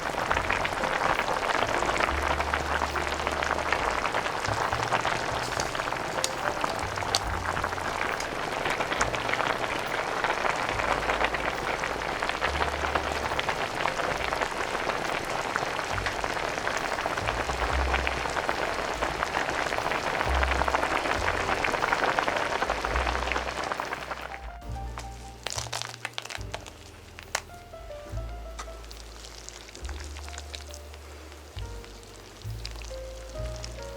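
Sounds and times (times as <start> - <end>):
broth boiling and bubbling: 0.0 - 33.9.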